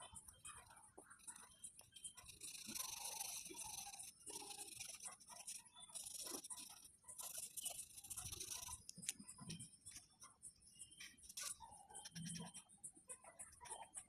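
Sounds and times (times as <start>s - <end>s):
pencil scratching on paper: 0.0s - 13.9s.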